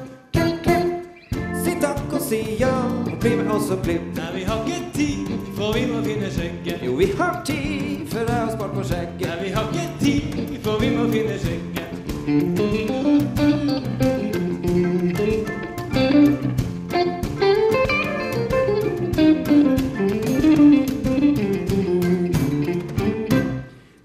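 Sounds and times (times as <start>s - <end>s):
live band playing blues: 0.0s - 23.7s
electric guitars: 0.0s - 24.0s.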